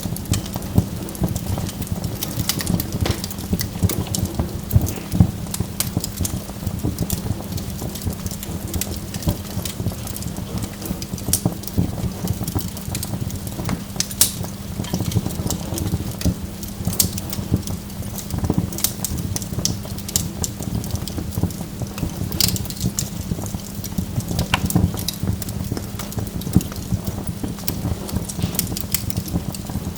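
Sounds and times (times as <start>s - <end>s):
burning logs crackling: 0.0s - 29.9s
low rumble of fire: 0.0s - 29.9s.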